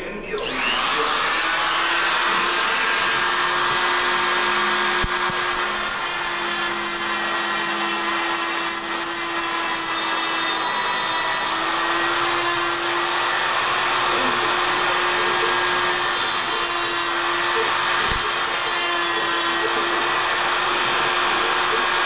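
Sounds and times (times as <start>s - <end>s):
die grinder grinding metal: 0.4s - 22.0s.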